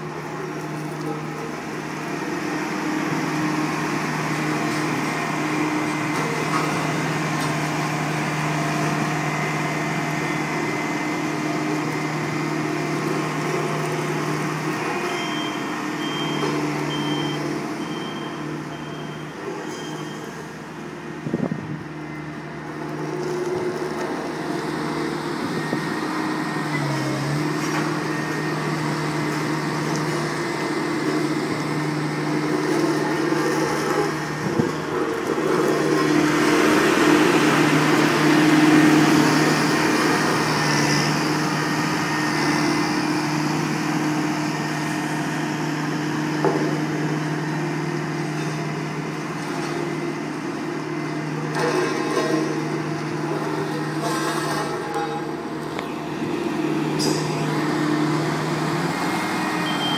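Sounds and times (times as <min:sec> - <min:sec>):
road roller diesel engine: 0:00.0 - 0:59.9.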